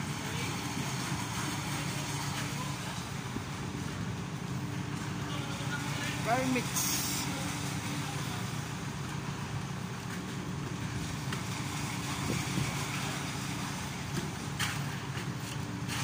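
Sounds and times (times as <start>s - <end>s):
concrete mixer diesel engine: 0.0s - 16.0s.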